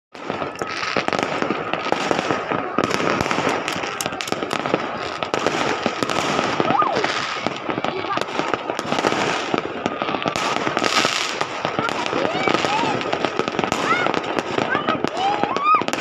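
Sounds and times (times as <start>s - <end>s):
fireworks popping and crackling: 0.1s - 16.0s.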